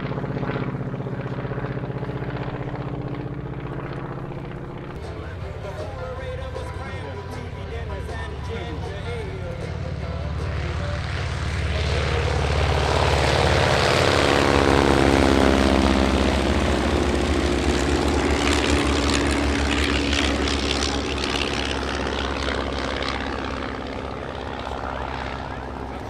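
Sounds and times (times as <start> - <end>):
propeller plane engine passing: 0.0 - 26.0.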